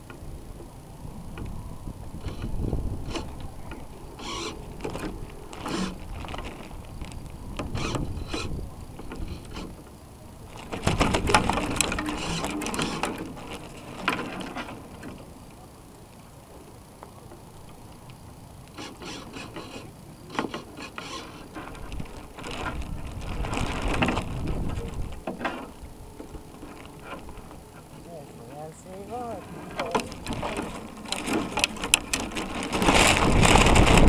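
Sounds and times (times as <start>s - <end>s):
servos whirring and rattling: 0.8s - 15.2s, 18.4s - 34.0s.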